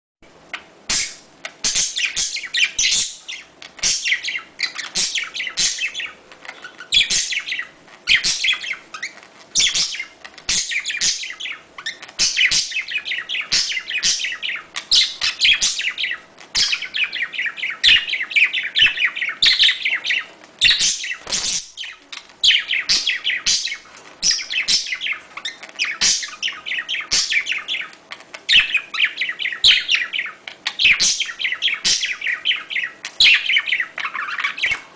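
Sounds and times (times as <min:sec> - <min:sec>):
budgerigars chirping and warbling: 0:00.5 - 0:34.9.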